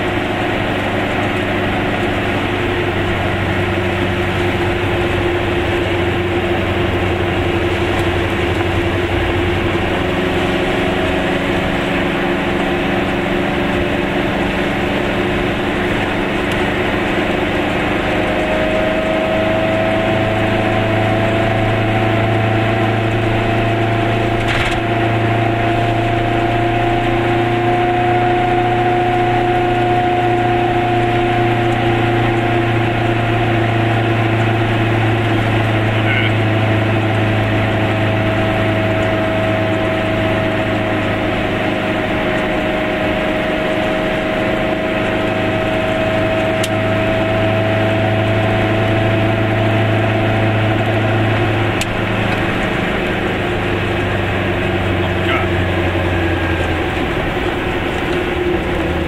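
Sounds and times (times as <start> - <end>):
small car engine running: 0.0 - 59.0
tyres hissing on wet road: 1.2 - 59.0.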